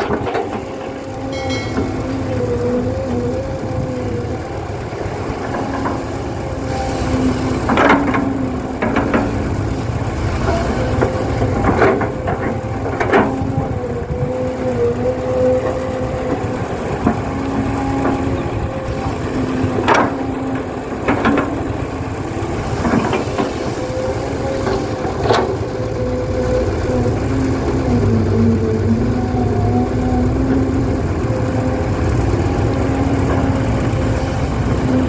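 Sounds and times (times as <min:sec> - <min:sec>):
excavator engine humming: 0:00.0 - 0:35.0.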